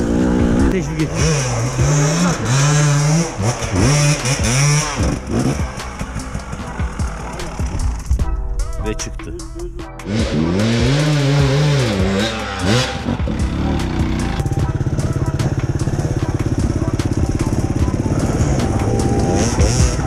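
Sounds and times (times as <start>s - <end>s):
dirt bike engine revving: 0.0s - 8.2s, 10.0s - 20.0s
engine running at low revs: 0.0s - 8.3s, 10.0s - 20.0s.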